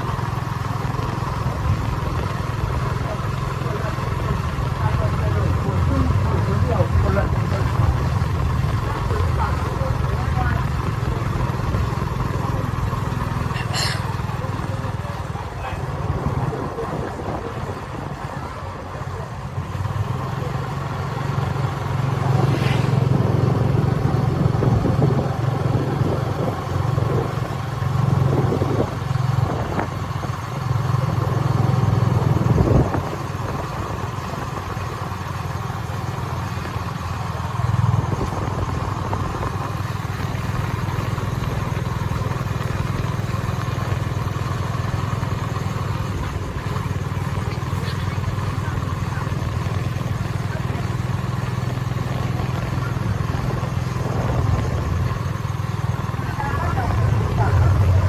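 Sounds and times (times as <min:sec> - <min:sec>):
small engine humming: 0:00.0 - 0:58.0.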